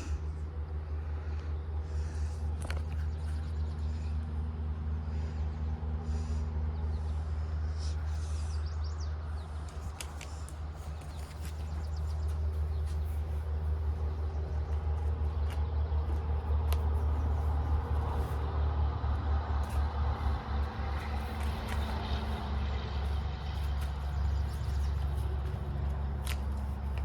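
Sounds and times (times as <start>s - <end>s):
engine rumble: 0.0s - 27.0s.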